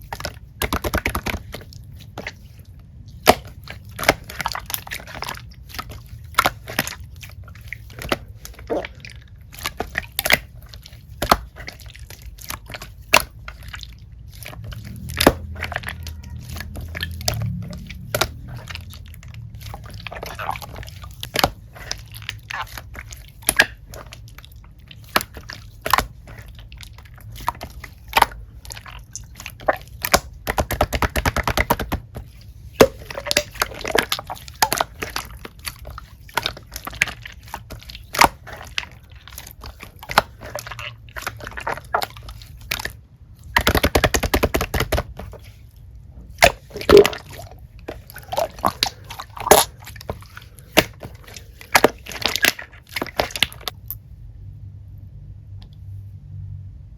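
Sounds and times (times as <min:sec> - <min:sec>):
crunchy bites and chewing: 0:00.0 - 0:45.6, 0:46.3 - 0:54.1.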